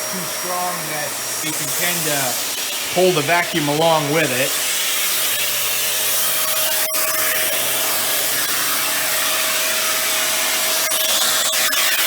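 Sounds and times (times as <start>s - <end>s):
vacuum cleaner motor whining: 0.0s - 12.0s.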